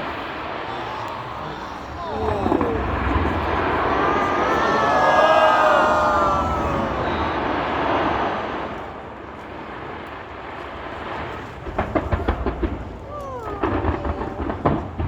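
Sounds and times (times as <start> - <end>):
fireworks sharp bangs and pops: 0.0 - 4.8, 7.1 - 15.0
fireworks rumbling bursts: 0.0 - 15.0.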